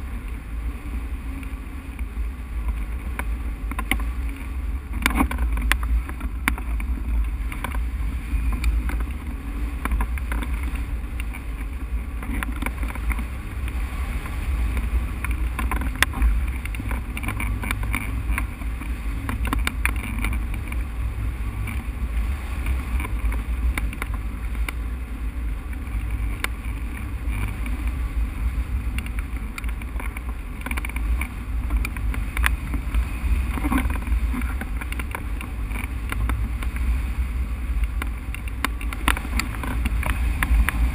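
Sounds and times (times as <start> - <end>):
wind buffeting microphone: 0.0 - 40.9
sharp ticks: 1.4 - 20.9, 22.6 - 24.8, 28.8 - 36.9, 37.7 - 40.9.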